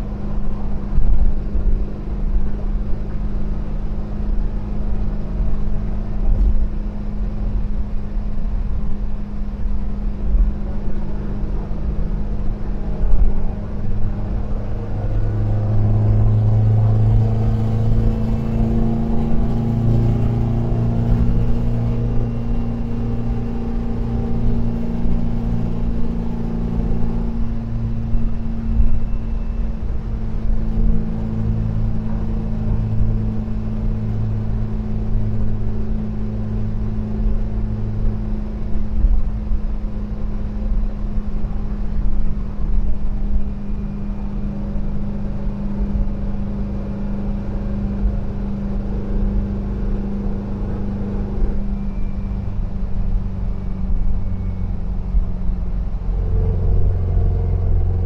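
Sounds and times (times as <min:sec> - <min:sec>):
van engine droning on the road: 0:00.0 - 0:58.0.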